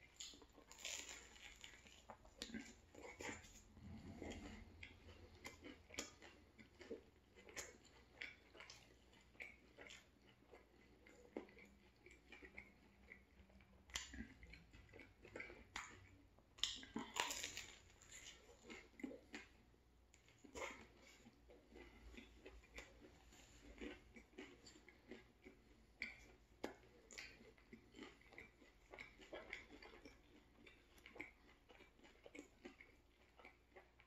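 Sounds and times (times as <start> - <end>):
person chewing with mouth smacks: 0.0 - 34.0.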